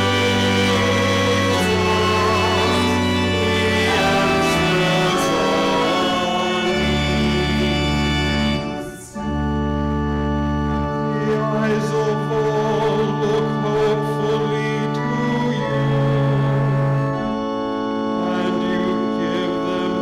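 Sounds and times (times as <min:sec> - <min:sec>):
person singing: 0:00.0 - 0:09.4, 0:10.9 - 0:17.0, 0:18.2 - 0:20.0
organ playing chords: 0:00.0 - 0:20.0.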